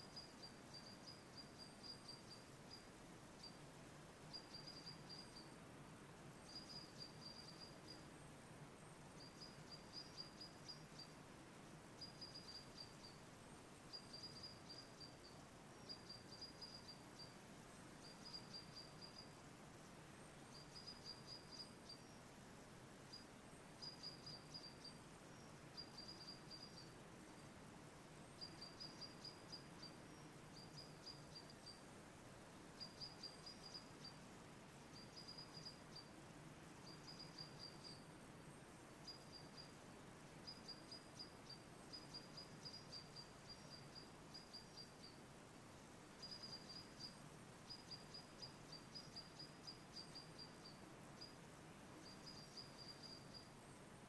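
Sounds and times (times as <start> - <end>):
songbird chirping trill: 0.0 - 54.0.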